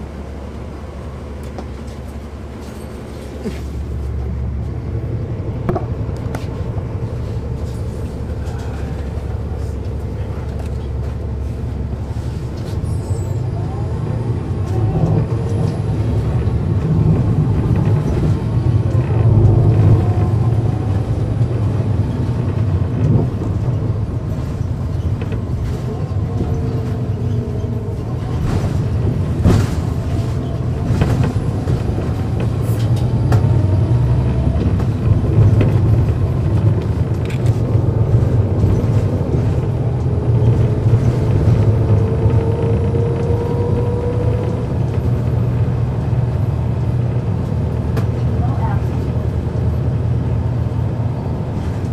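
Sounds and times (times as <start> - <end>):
bus diesel engine rumbling: 0.0 - 51.9.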